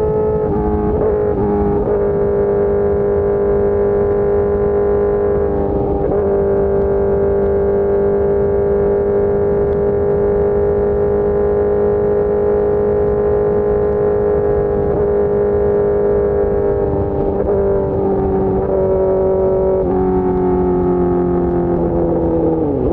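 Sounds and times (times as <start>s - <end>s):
motorcycle engine droning: 0.0s - 22.9s.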